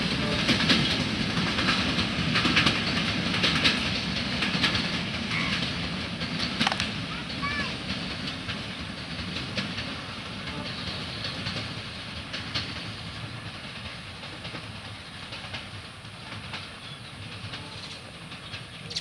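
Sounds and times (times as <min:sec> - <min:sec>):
train rumbling: 0:00.0 - 0:19.0
wheels clacking over rail joints: 0:00.0 - 0:19.0.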